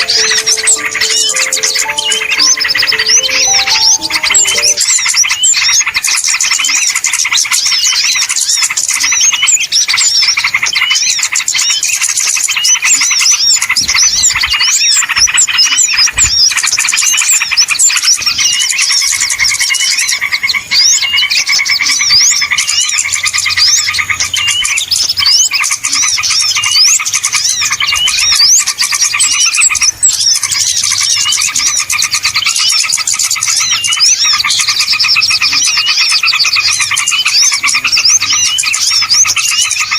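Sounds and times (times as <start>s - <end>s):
small songbirds chirping: 0.0s - 5.7s, 6.3s - 39.9s.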